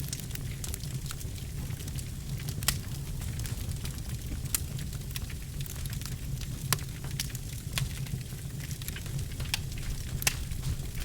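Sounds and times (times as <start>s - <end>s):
low rumble of burning fire: 0.0s - 11.0s
wood fire crackling and popping: 0.0s - 11.0s.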